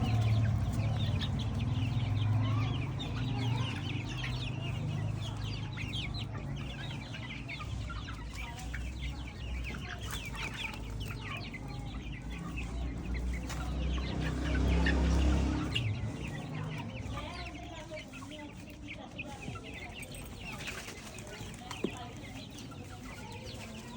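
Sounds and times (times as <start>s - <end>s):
chicks peeping: 0.0s - 23.9s.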